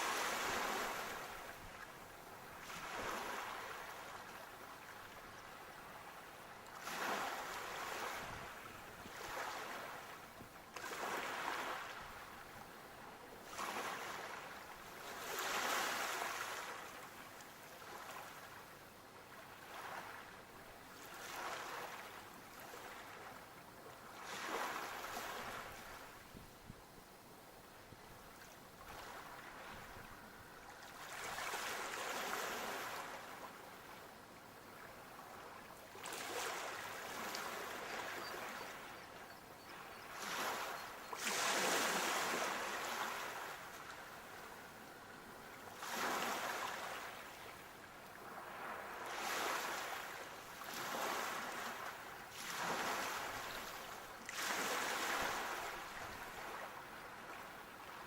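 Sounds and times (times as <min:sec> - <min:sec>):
sea waves breaking on shore: 0:00.0 - 0:26.4, 0:28.2 - 0:58.0.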